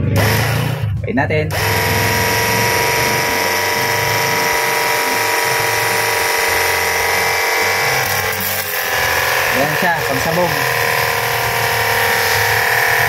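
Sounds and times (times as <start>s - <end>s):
pressure washer pump whining: 0.0s - 0.9s, 1.5s - 13.0s.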